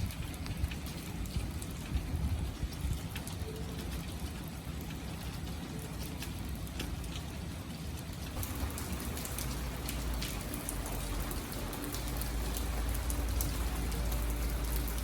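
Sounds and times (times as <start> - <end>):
raindrops ticking close by: 0.0 - 15.0
steady rain falling: 0.0 - 15.0.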